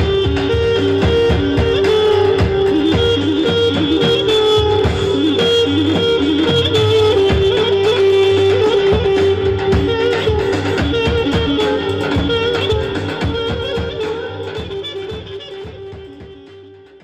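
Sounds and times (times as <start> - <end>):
violins: 0.0 - 16.5
accordion: 0.0 - 17.0
goblet drum beat: 0.0 - 17.0
keyboard: 0.0 - 17.0.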